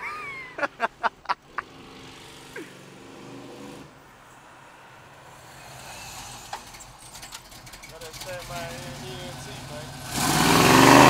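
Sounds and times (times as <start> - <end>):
distant car engine drone: 0.0 - 11.0.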